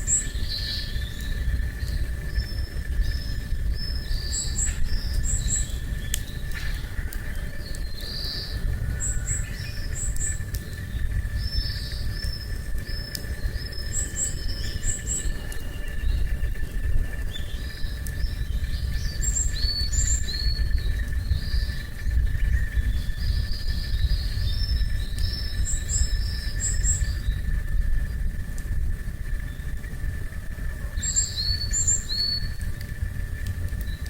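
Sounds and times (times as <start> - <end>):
campfire crackling: 0.0 - 34.0
insect drone: 0.0 - 34.0
small birds chirping: 0.0 - 34.0
steady low rumble: 0.0 - 34.0.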